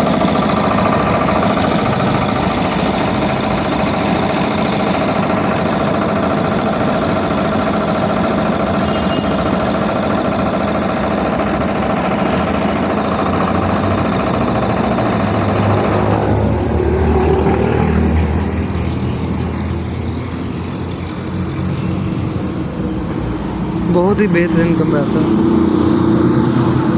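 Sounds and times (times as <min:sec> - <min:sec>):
air compressor running: 0:00.0 - 0:26.9.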